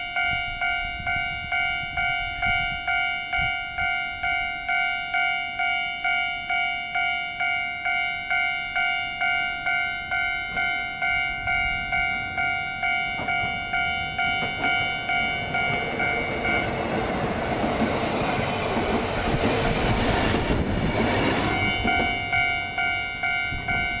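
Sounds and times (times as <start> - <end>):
level crossing bell ringing: 0.0 - 17.2, 21.6 - 24.0
electric train passing: 0.1 - 24.0.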